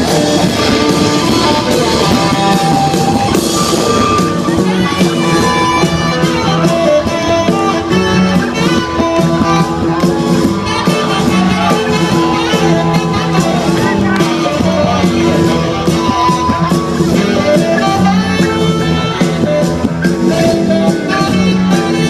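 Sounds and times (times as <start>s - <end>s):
drums: 0.0s - 22.0s
electric guitar: 0.0s - 22.0s.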